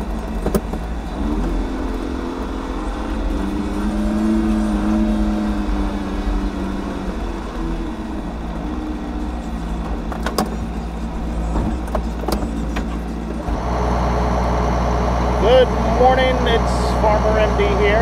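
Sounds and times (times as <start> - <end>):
tractor diesel engine humming: 0.0 - 18.0.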